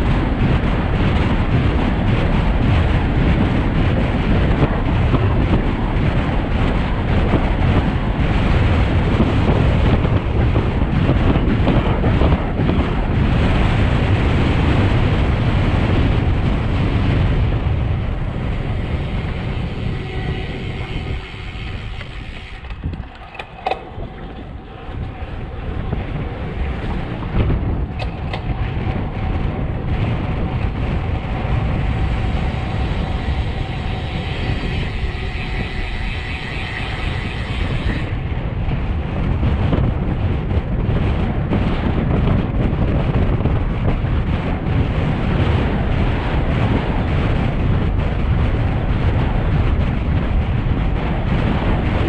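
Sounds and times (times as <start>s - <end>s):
tyres rumbling on road: 0.0s - 52.0s
wind buffeting microphone: 0.0s - 52.0s.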